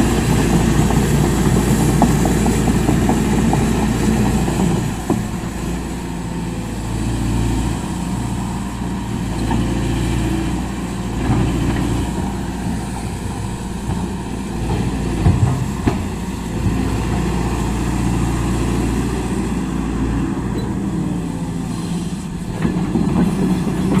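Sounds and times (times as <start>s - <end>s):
excavator diesel engine rumbling: 0.0s - 24.0s.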